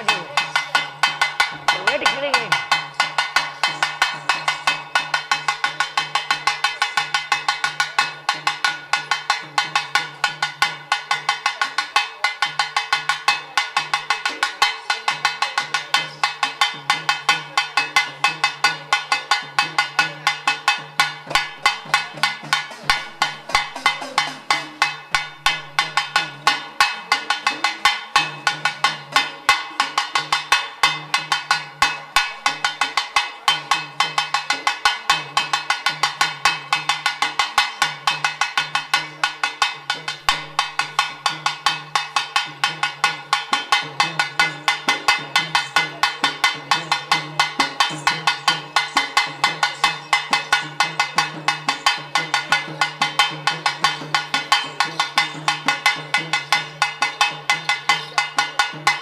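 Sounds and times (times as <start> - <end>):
rapid metallic percussion strikes: 0.0 - 59.0.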